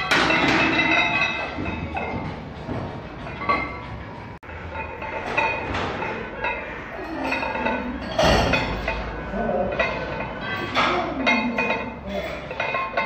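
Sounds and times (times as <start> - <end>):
weight plates clanking: 0.0 - 13.0.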